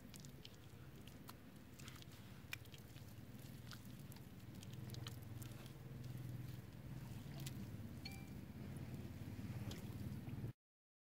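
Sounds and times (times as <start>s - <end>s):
hands squishing wet clay: 0.0s - 10.4s
low steady rumble: 0.0s - 10.6s.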